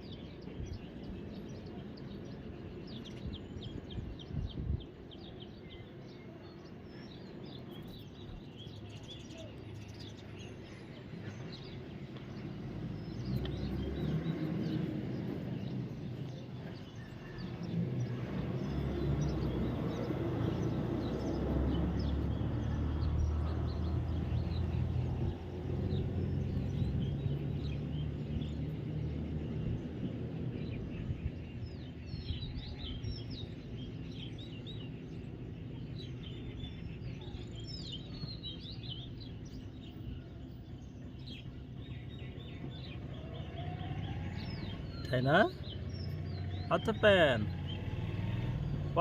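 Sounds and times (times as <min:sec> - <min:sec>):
birds chirping: 0:00.0 - 0:49.0
outdoor background noise: 0:00.0 - 0:49.0.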